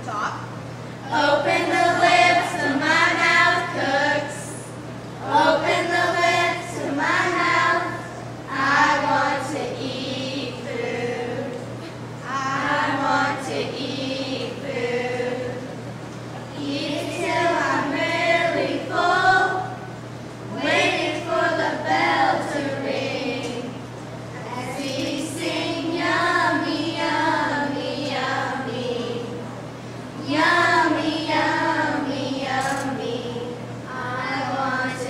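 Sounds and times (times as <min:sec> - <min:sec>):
girls singing together: 0:01.0 - 0:29.6, 0:30.2 - 0:35.0.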